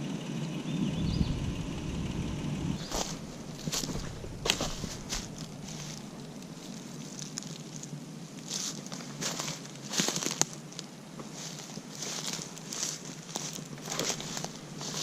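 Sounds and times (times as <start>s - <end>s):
dry leaves rustling and crackling: 2.8s - 15.0s.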